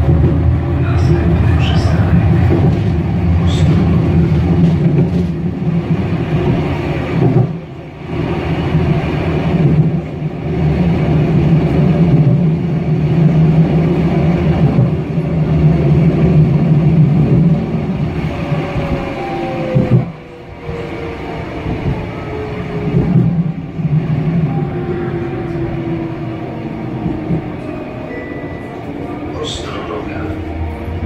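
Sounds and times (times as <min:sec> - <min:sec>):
tram wheels rumbling on track: 0:00.0 - 0:31.0.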